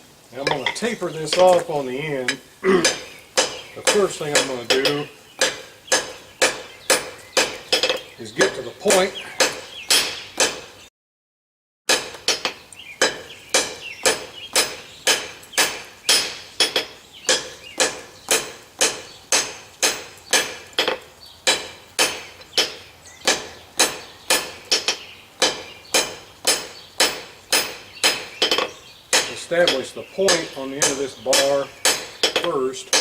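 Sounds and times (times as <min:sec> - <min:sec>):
hammer striking steel on anvil: 0:02.3 - 0:10.7, 0:11.9 - 0:33.0.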